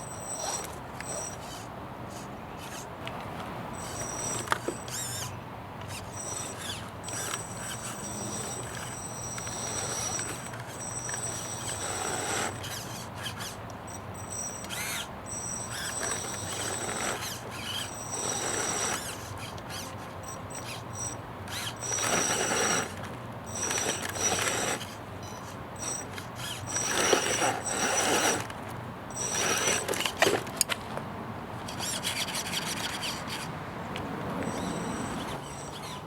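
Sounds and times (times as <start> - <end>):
electric motor whining: 0.0 - 30.7, 31.7 - 36.0
low drivetrain hum: 0.0 - 36.0.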